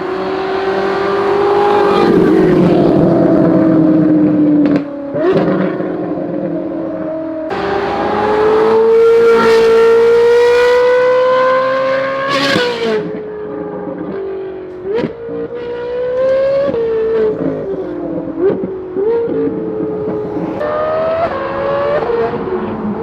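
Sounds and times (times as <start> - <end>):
sports car engine accelerating: 0.0 - 23.0.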